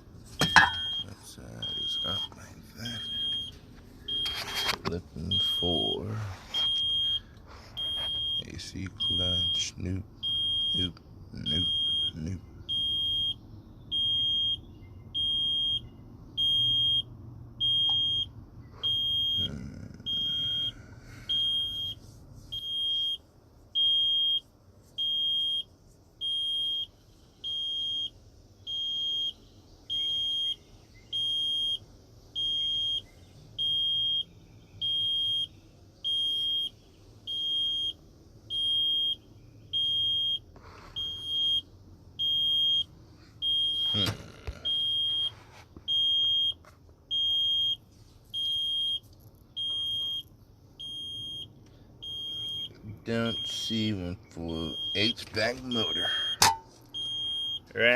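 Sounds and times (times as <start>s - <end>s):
high-pitched warning beeps: 0.4s - 23.2s, 25.0s - 31.8s, 32.4s - 35.5s, 36.1s - 40.4s, 41.0s - 41.6s, 42.2s - 45.3s, 45.9s - 47.8s, 48.4s - 49.0s, 49.6s - 53.9s, 54.5s - 57.7s.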